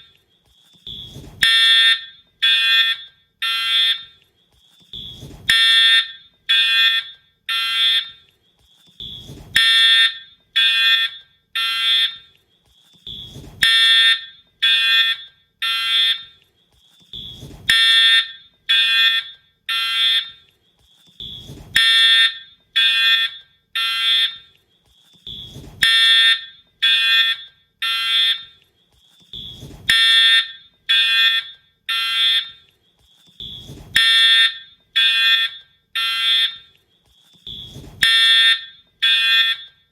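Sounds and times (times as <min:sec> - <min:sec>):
fire alarm horn blasts: 0:00.8 - 0:04.2, 0:04.9 - 0:08.3, 0:09.0 - 0:12.4, 0:13.0 - 0:16.4, 0:17.1 - 0:20.5, 0:21.2 - 0:24.6, 0:25.2 - 0:28.6, 0:29.3 - 0:32.7, 0:33.4 - 0:39.9.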